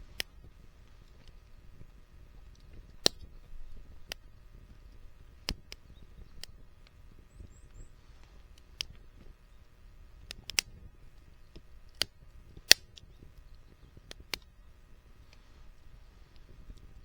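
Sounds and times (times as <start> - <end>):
faint low rumble of fire: 0.0 - 17.0
firewood crackling and popping: 0.0 - 17.0.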